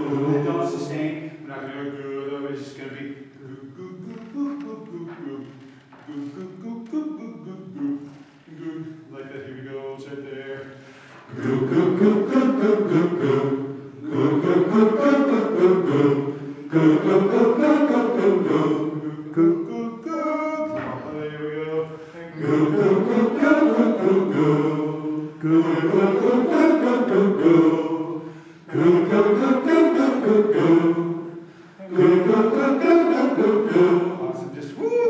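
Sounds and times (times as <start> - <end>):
men's chorus singing a cappella: 0.0 - 35.0.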